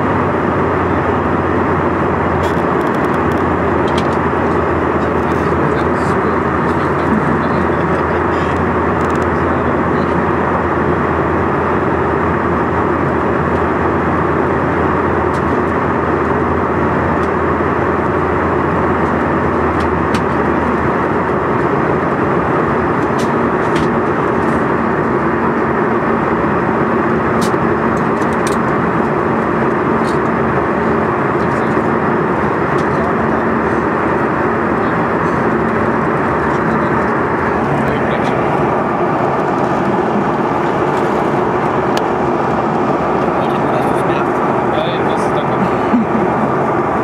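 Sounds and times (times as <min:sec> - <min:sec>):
jet engines humming: 0:00.0 - 0:47.0.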